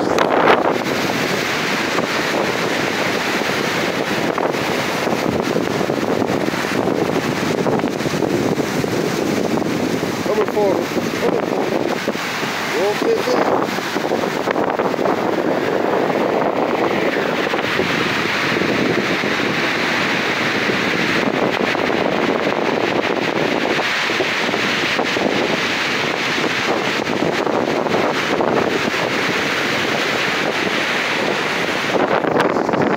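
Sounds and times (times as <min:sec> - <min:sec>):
surf breaking on a cobble beach: 0:00.0 - 0:32.9
wind buffeting microphone: 0:00.0 - 0:32.9.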